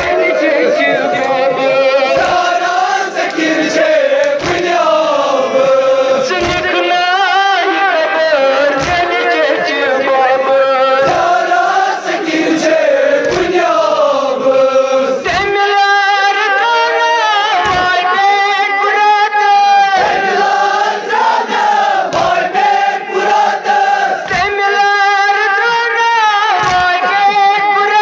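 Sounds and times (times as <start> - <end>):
voices chanting a lament: 0.0 - 28.0.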